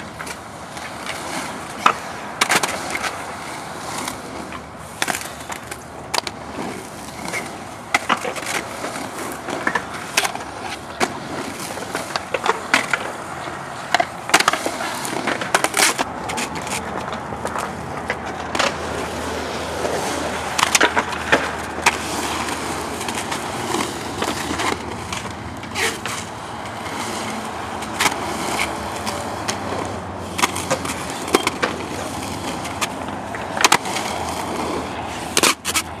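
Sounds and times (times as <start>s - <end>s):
skate wheels rolling on concrete: 0.0s - 36.0s
skates clacking against concrete: 0.0s - 36.0s.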